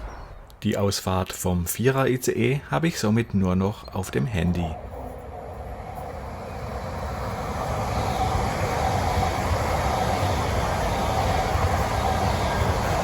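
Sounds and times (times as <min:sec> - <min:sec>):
high-speed train passing: 0:01.8 - 0:13.0
faint steady whine: 0:02.2 - 0:13.0.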